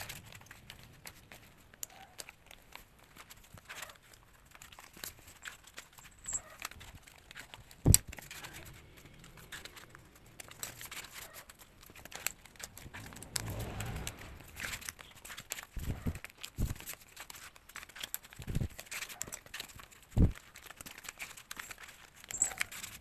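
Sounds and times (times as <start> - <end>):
packaging crinkling: 0.0 - 23.0.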